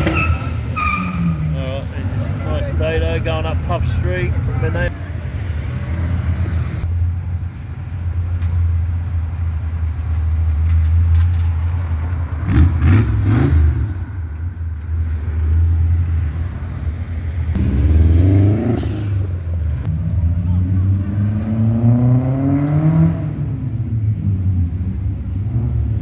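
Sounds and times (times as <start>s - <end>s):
car engine rumbling and revving: 0.0s - 26.0s.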